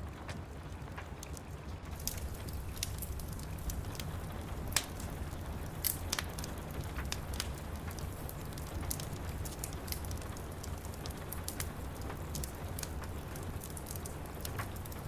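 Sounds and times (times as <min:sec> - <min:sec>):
rain hiss: 0:00.0 - 0:15.0
wood fire crackling and popping: 0:00.0 - 0:15.0.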